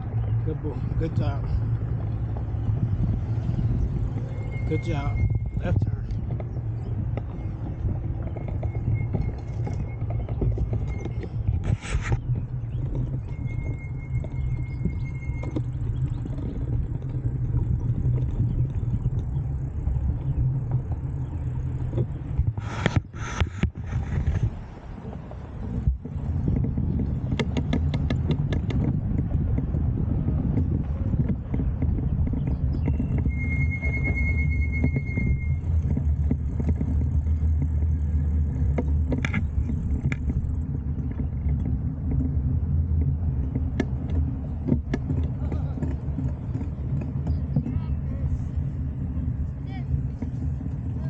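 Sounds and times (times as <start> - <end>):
bike tyres on dirt: 0.0 - 51.0
wind on microphone: 0.0 - 51.0
bike clicks and knocks: 5.9 - 51.0.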